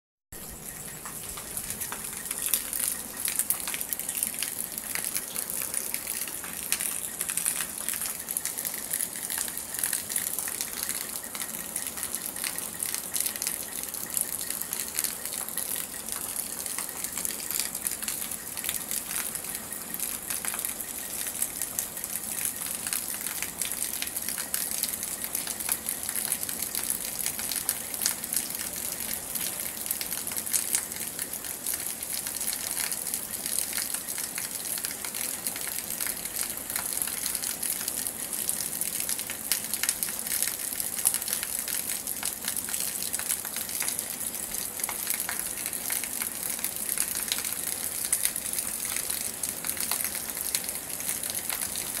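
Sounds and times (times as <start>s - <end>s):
heavy rain splashing into water: 0.5s - 52.0s.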